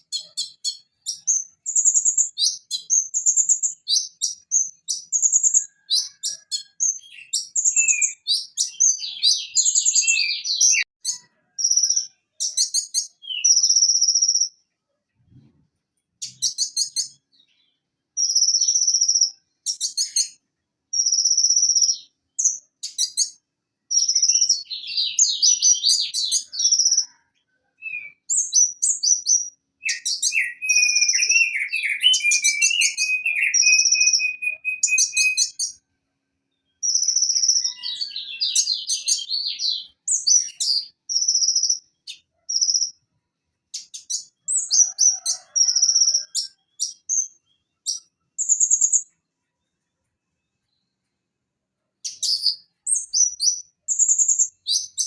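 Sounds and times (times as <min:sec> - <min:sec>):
sunbird singing high trills: 0:00.0 - 0:14.6, 0:16.2 - 0:20.4, 0:21.0 - 0:27.2, 0:27.8 - 0:35.8, 0:36.6 - 0:43.0, 0:43.8 - 0:49.1, 0:52.0 - 0:55.0.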